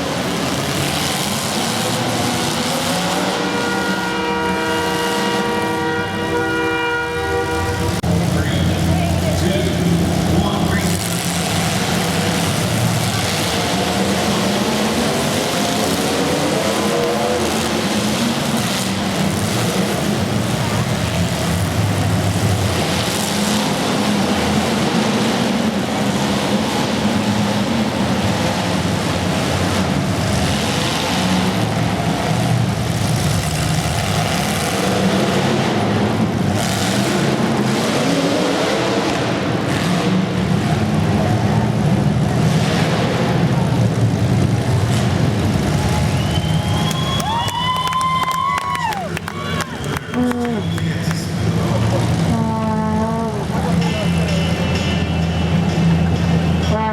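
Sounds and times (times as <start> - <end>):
vehicle engines revving: 0.0 - 56.9.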